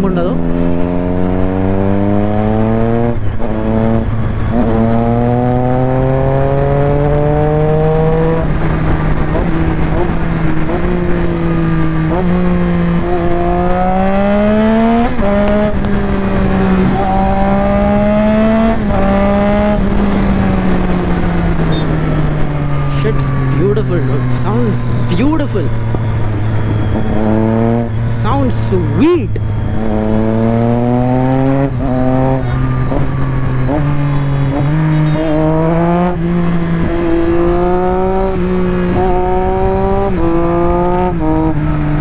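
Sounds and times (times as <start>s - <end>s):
motorcycle engine shifting gears: 0.0s - 42.0s.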